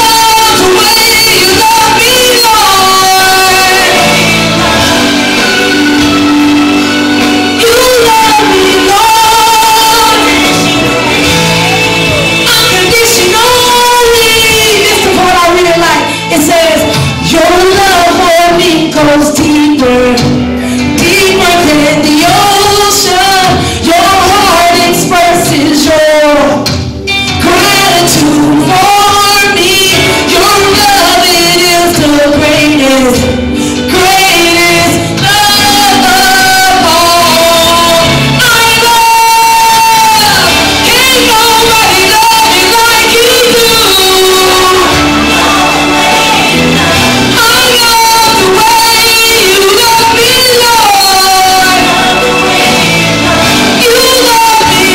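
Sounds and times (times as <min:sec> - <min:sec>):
band accompaniment: 0:00.0 - 0:54.9
woman leading gospel singing: 0:00.0 - 0:54.9.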